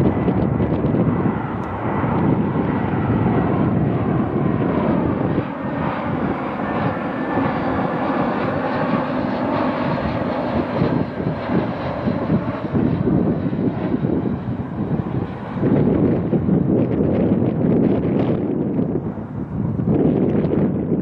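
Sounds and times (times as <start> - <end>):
jetliner flying over: 0.0 - 21.0.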